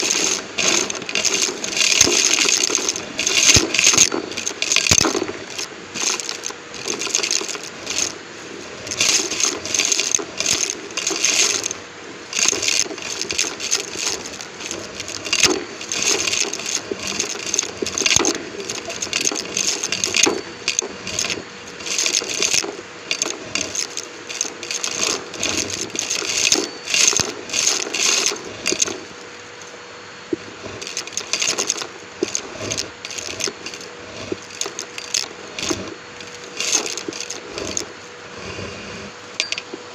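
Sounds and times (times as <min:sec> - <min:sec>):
debris crackling through vacuum: 0:00.0 - 0:39.4
vacuum cleaner humming: 0:00.0 - 0:39.4.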